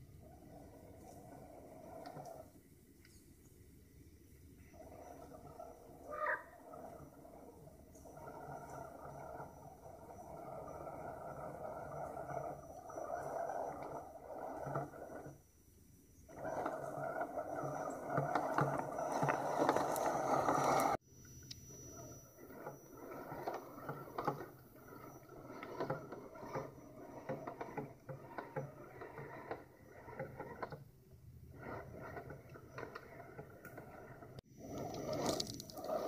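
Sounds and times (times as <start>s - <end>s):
toy car motor whining: 4.7s - 15.5s, 16.1s - 36.0s.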